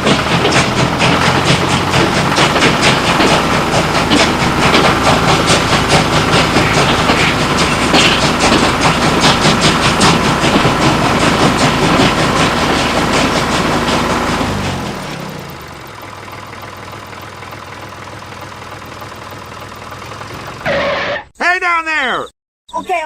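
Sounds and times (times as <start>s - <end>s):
machine hum: 0.0s - 21.3s.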